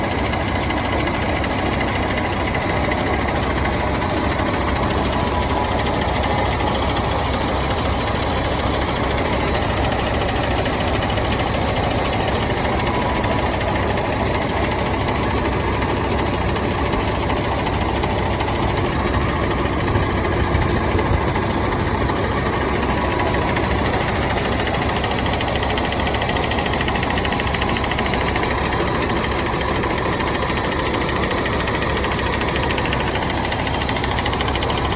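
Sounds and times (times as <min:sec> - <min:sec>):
diesel bus engine idling: 0:00.0 - 0:34.9.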